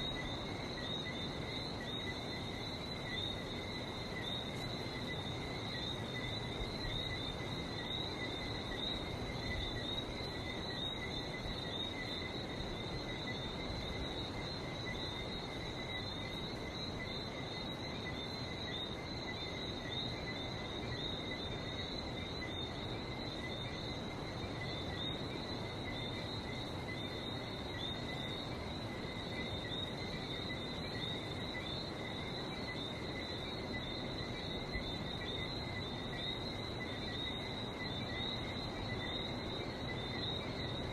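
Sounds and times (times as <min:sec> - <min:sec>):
frogs chirping: 0:00.0 - 0:40.9.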